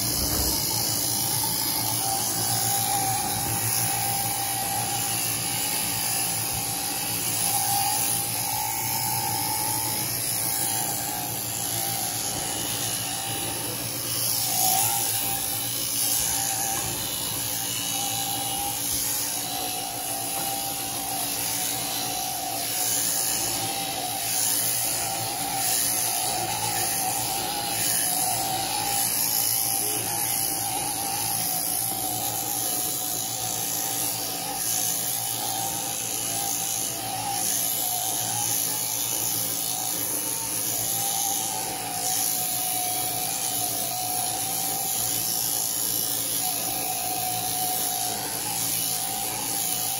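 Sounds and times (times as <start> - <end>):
sheep-shearing handpiece running: 0.0 - 49.9.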